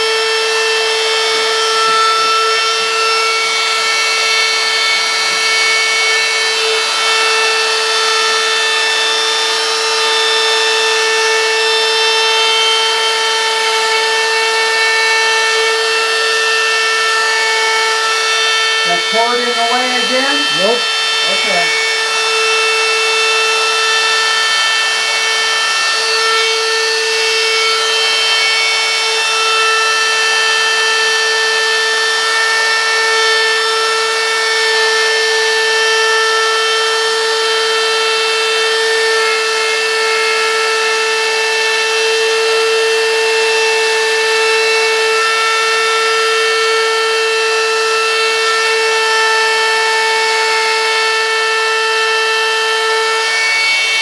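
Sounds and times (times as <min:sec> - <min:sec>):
router bit cutting wood: 0:00.0 - 0:54.0
wood router motor whine: 0:00.0 - 0:54.0.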